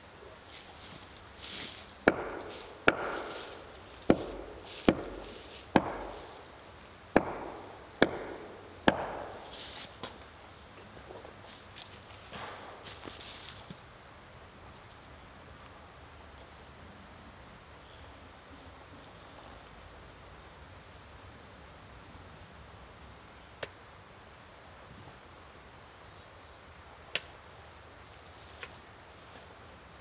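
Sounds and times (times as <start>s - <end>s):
low steady hiss: 0.0s - 30.0s.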